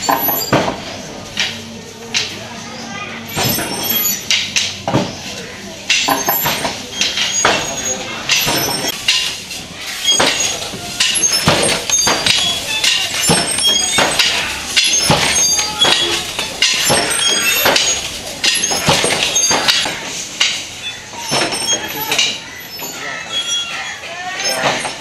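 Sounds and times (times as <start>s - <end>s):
wooden handloom clacking: 0.0s - 25.0s.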